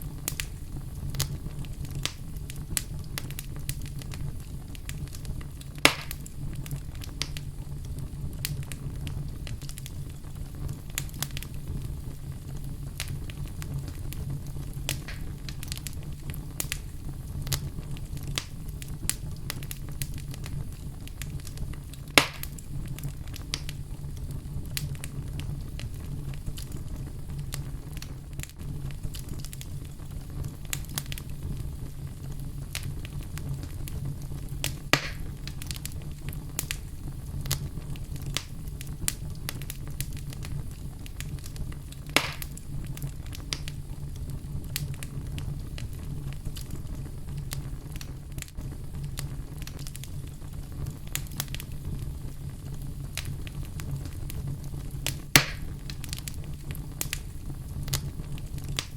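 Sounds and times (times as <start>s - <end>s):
fire crackling in fireplace: 0.0s - 58.9s
loud fire pops: 0.0s - 58.9s.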